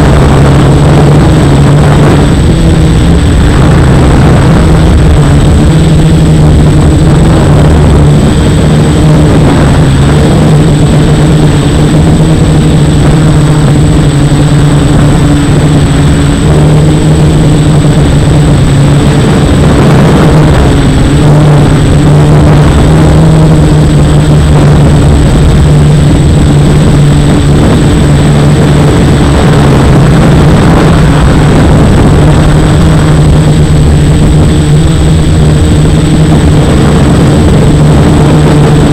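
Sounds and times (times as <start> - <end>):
drone propellers buzzing: 0.0 - 38.9
high whine: 0.0 - 38.9.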